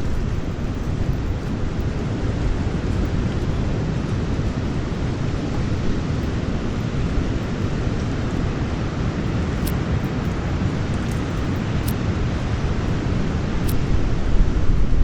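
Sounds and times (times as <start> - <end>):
fire crackles: 0.0 - 13.8
campfire rumble: 0.0 - 15.0.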